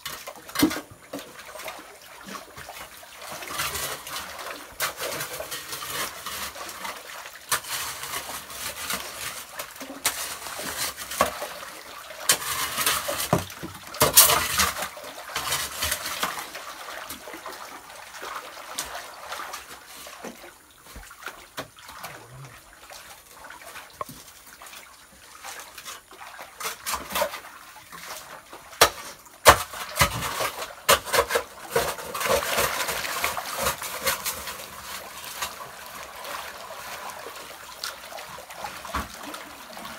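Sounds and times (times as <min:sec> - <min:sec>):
muddy water splashing: 0:00.1 - 0:39.9.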